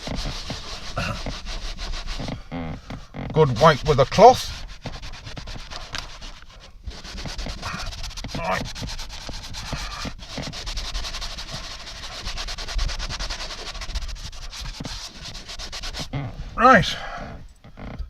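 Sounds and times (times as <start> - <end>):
cloth rubbing on surface: 0.0 - 17.4.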